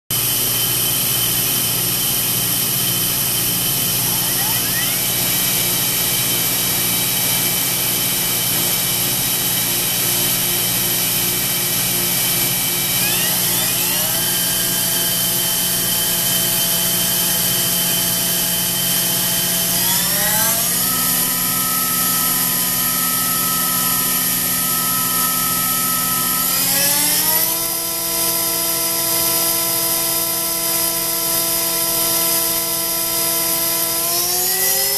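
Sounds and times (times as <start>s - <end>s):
electric motor whining: 1.0s - 34.9s.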